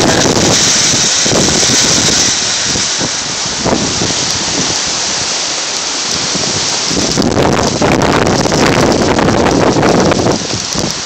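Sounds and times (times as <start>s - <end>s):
heavy rain pouring: 0.0s - 11.0s
wind rumbling on microphone: 0.0s - 11.0s.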